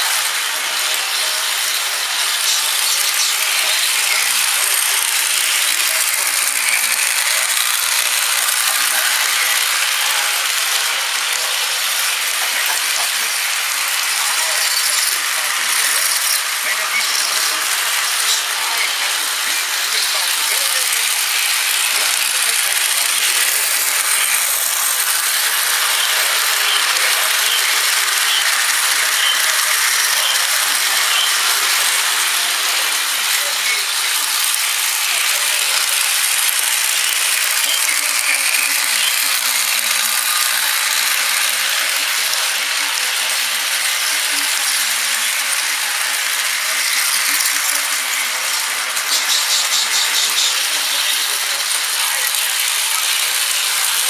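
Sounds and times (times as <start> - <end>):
toy train whirring rattle: 0.0 - 54.0.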